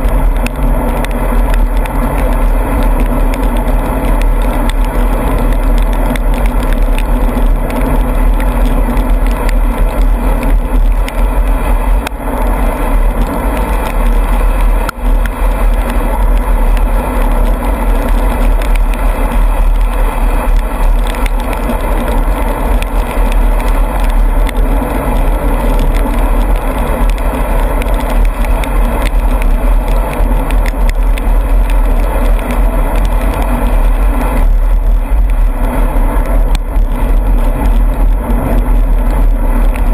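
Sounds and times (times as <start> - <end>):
bicycle tyres on wet road: 0.0 - 39.9
wind rumble on microphone: 0.0 - 39.9.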